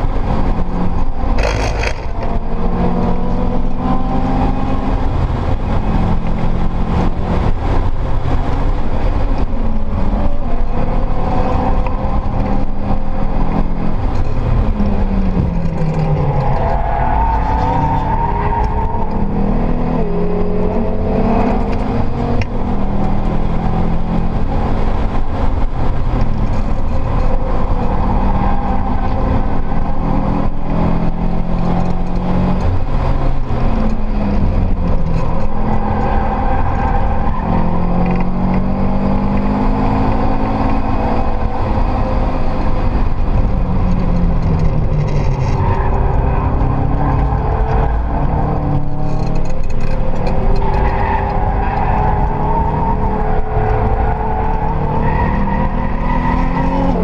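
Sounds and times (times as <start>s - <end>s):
car engine under hard driving: 0.0s - 57.0s
road and wind noise: 0.0s - 57.0s.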